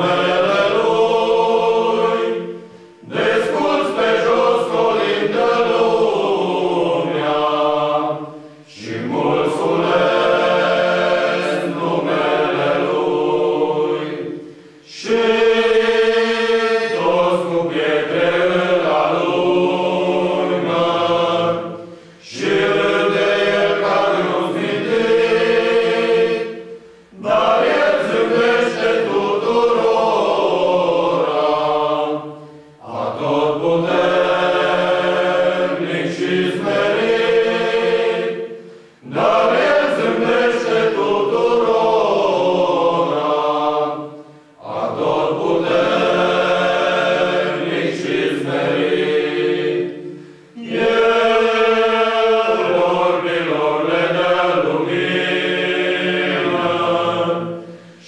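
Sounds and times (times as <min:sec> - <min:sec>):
male choir singing a cappella: 0:00.0 - 0:58.0.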